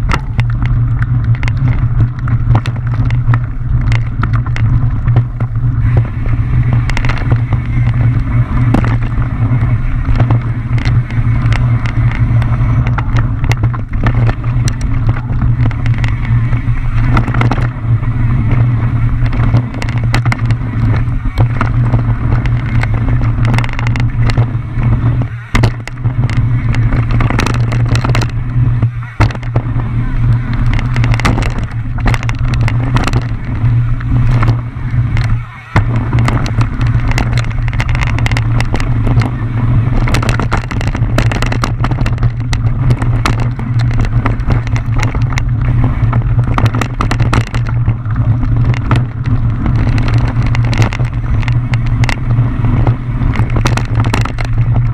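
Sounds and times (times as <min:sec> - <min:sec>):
bike clattering and rattling: 0:00.0 - 0:54.9
wind rumble on microphone: 0:00.0 - 0:54.9.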